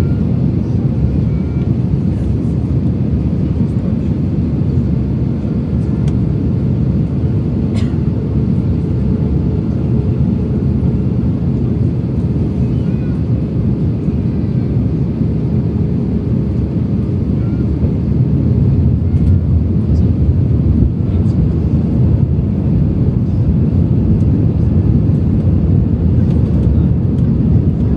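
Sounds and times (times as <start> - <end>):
airplane cabin engine rumble: 0.0 - 27.9.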